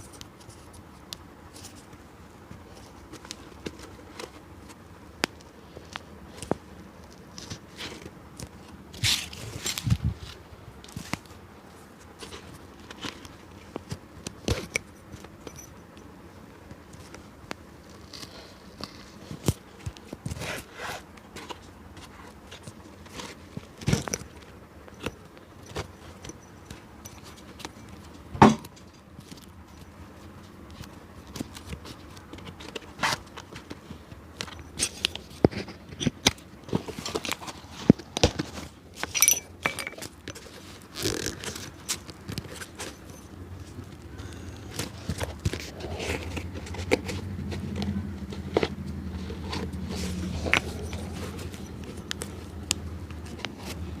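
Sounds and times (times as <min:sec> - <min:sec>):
hand tools tapping and scraping: 0:00.0 - 0:54.0.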